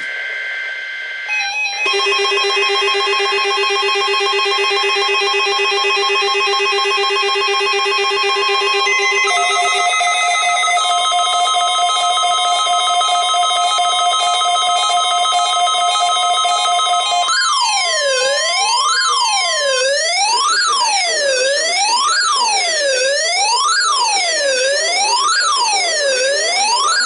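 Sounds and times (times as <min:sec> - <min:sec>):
repeating electronic beeping: 0:00.0 - 0:27.0
steady alarm tone: 0:00.0 - 0:27.0.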